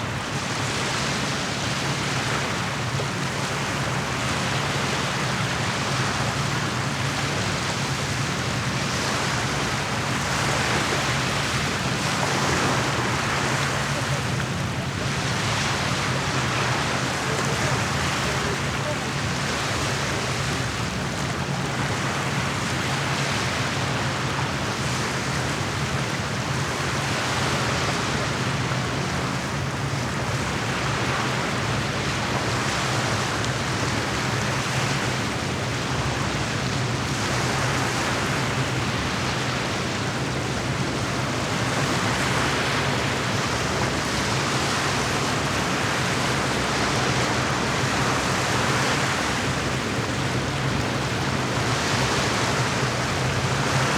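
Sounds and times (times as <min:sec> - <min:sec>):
waves washing against shore: 0:00.0 - 0:53.9.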